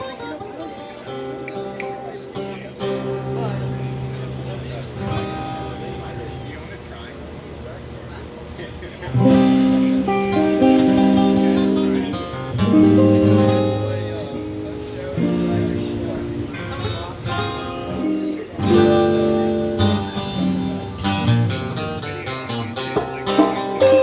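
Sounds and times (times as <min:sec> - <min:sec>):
live blues band playing: 0:00.0 - 0:06.8, 0:09.0 - 0:24.0
guitar chords strummed: 0:00.0 - 0:24.0.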